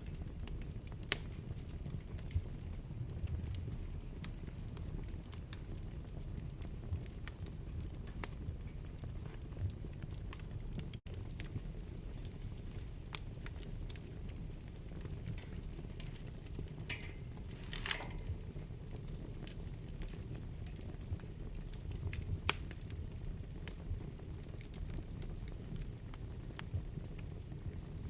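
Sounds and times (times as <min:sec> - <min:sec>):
fire crackling and popping: 0:00.0 - 0:28.0
fire low rumble: 0:00.0 - 0:28.0.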